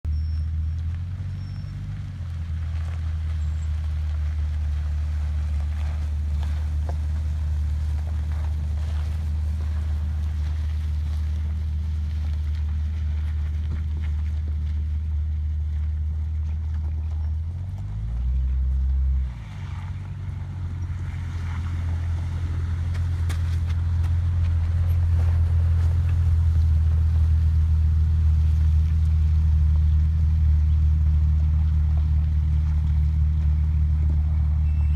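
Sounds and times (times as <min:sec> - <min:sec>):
vehicle engine running low revs: 0:00.0 - 0:34.9.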